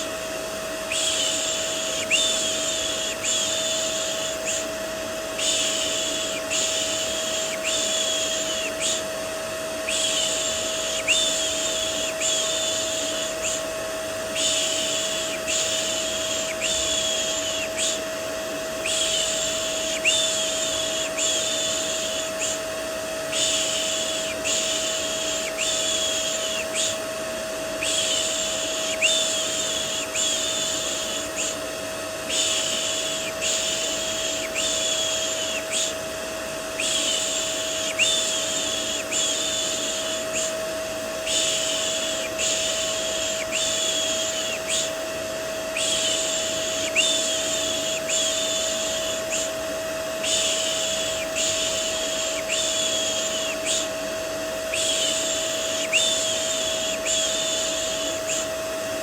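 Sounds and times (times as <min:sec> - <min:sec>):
vacuum cleaner drone: 0:00.0 - 0:59.0.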